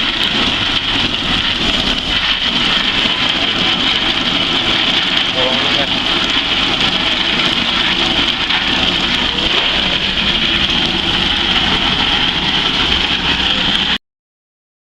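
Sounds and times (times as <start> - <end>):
machine running: 0.0 - 14.0.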